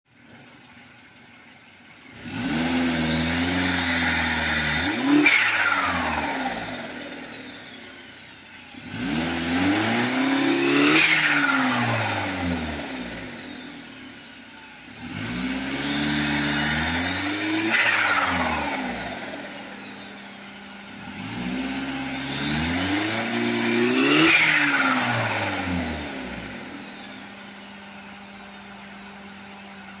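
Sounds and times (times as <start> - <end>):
engine revving: 2.0 - 30.0
turbo whine: 2.0 - 30.0.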